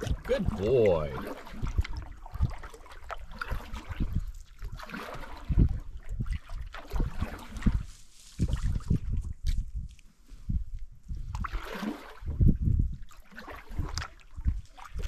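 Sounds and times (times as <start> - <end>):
water trickling and gurgling: 0.0 - 9.4, 11.2 - 15.0.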